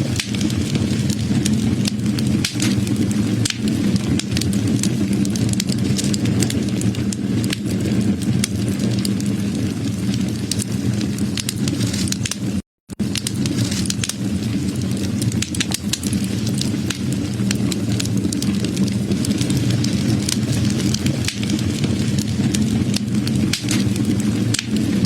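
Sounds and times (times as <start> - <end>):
fire low rumble: 0.0 - 25.0
wood fire crackling: 0.0 - 25.0.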